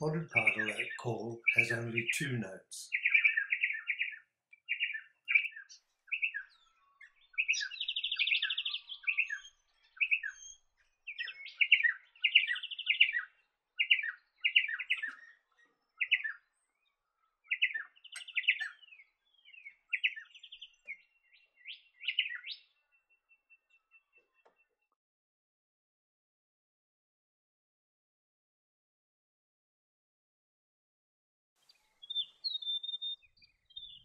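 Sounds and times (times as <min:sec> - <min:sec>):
small birds trilling and chipping: 0:00.0 - 0:24.9, 0:31.6 - 0:34.0.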